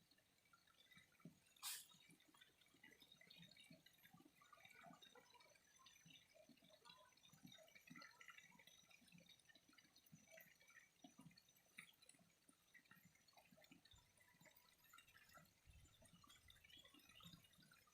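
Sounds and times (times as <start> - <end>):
water trickling and dripping: 0.0 - 17.9.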